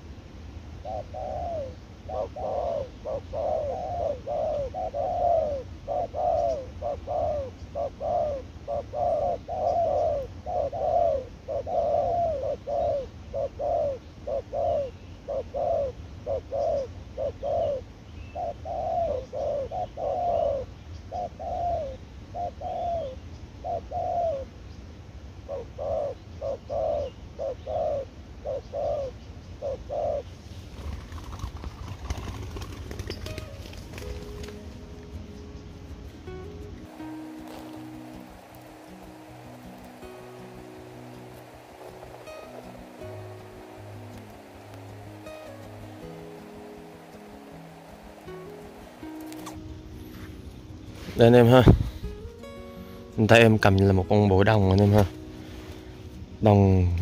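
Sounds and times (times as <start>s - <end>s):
doves cooing: 0.8s - 24.5s, 25.4s - 56.0s.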